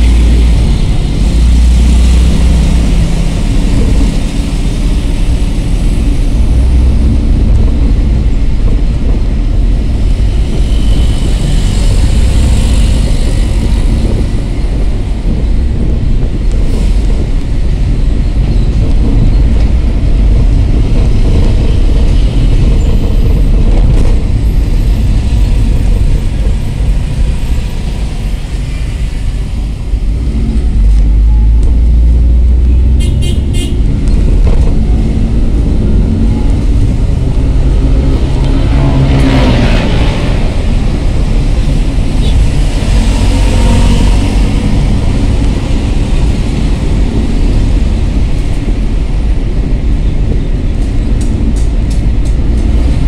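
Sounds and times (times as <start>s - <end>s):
minibus engine and road noise: 0.0s - 53.0s.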